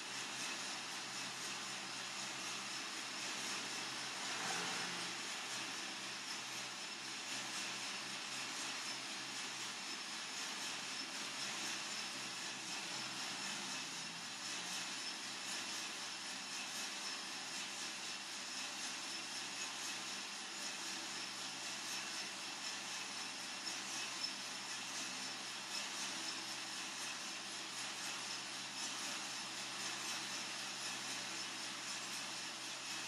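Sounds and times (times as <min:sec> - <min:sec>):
coffee roaster whirring: 0:00.0 - 0:33.0.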